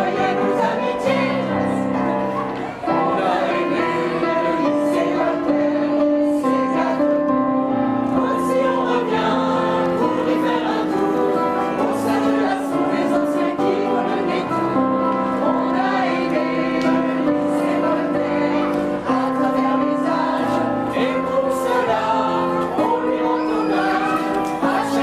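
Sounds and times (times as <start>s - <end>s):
mixed choir singing in harmony: 0.0s - 25.0s.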